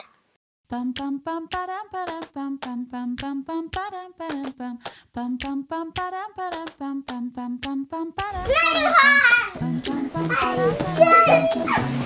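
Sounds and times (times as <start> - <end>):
bouncy background music: 0.7 - 12.0.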